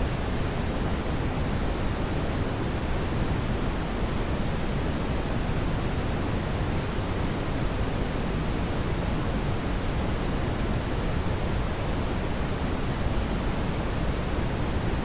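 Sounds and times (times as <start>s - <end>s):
brown noise hiss: 0.0s - 15.0s.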